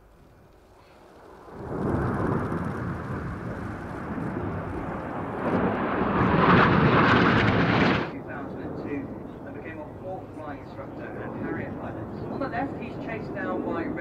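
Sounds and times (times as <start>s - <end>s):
jets flying past: 0.7s - 14.0s.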